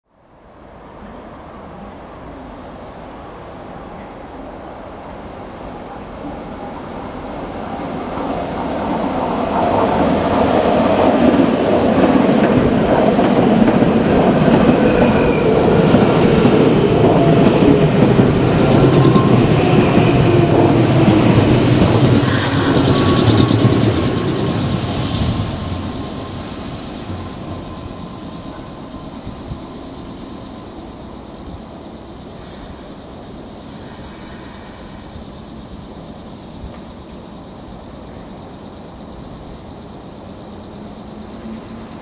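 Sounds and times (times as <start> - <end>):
train wheels rumbling on rail: 1.0 - 42.0.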